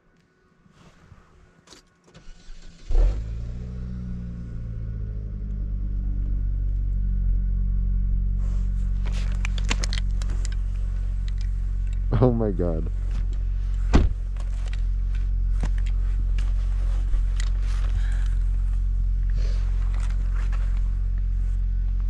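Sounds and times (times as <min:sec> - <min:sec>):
car engine starting and idling: 0:02.1 - 0:22.0.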